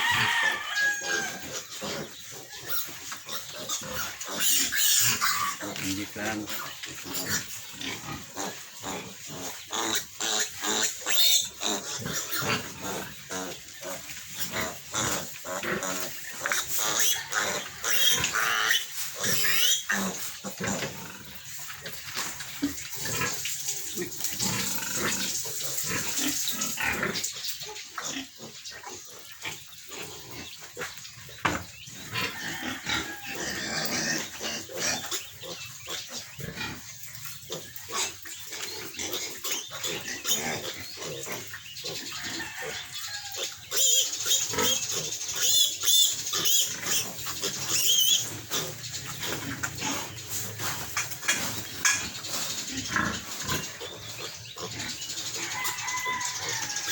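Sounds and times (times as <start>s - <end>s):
piglets squealing: 0.0s - 22.0s, 24.4s - 52.0s, 52.6s - 56.9s.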